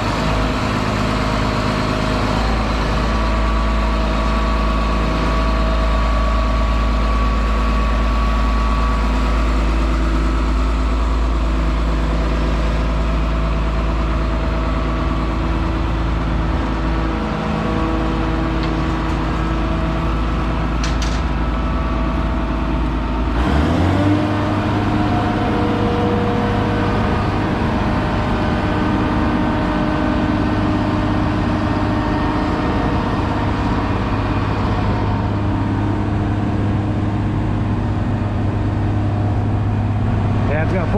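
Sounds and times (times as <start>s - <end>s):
deep drone: 0.0s - 40.9s
engine rising in pitch then idling: 0.0s - 40.9s
farm engines running: 0.0s - 40.9s.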